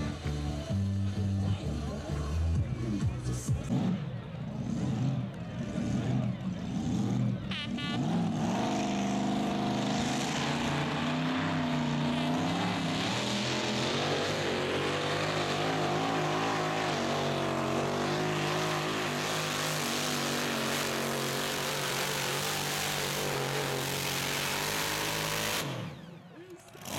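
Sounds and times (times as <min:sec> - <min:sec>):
tractor engine at high revs: 0:00.0 - 0:26.9.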